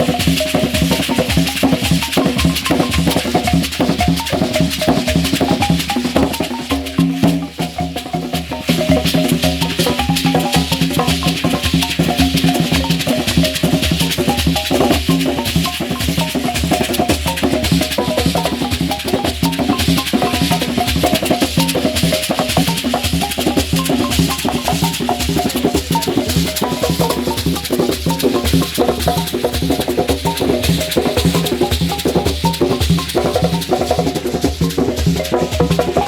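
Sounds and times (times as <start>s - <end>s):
percussion ensemble rhythm: 0.0s - 36.0s
shaking rattle: 0.0s - 36.0s.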